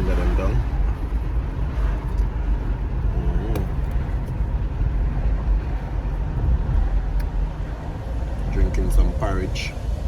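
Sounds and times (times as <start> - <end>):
car engine and road noise: 0.0 - 10.0
wind buffeting microphone: 0.0 - 10.0.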